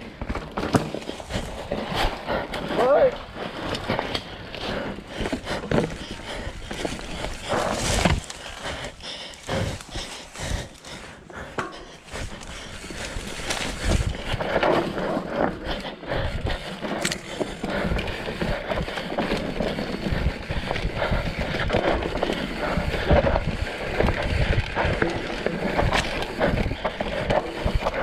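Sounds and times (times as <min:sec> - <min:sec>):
bike clattering over bumps: 0:00.0 - 0:28.0.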